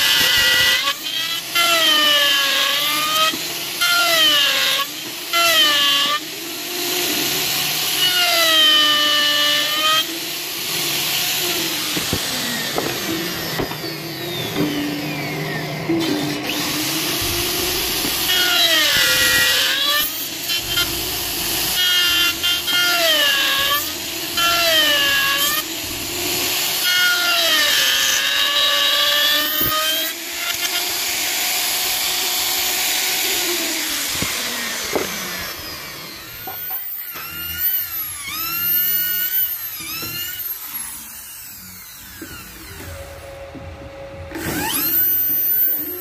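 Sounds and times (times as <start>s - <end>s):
electric router cutting wood: 0.0s - 46.0s.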